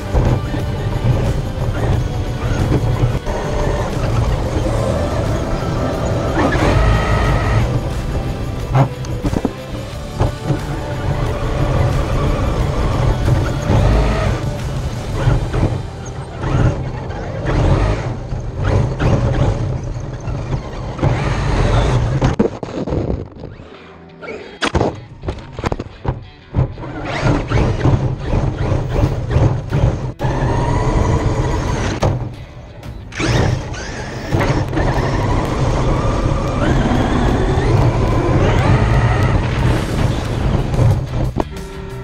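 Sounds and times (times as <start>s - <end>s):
rushing wind: 0.0s - 23.7s, 26.7s - 41.6s
electric motor and drivetrain running: 0.0s - 23.9s, 25.4s - 42.0s
tyres and chassis rattling: 0.0s - 42.0s.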